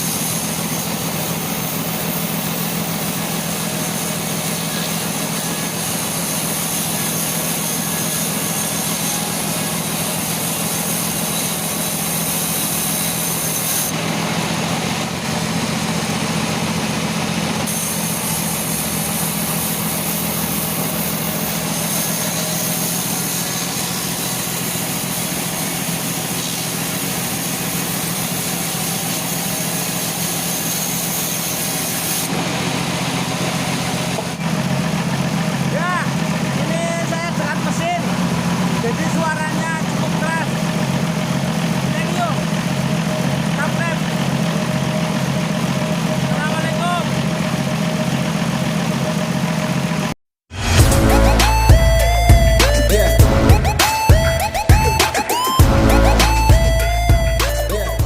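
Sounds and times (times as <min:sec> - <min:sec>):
machine saw running: 0:00.0 - 0:58.0.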